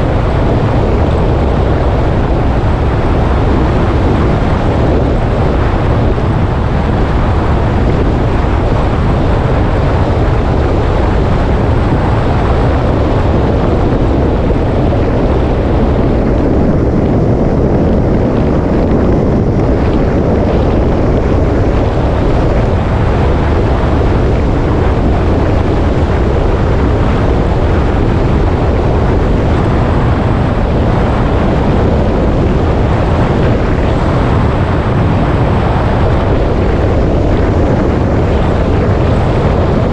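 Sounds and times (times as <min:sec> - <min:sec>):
wind blowing over microphone: 0:00.0 - 0:39.9.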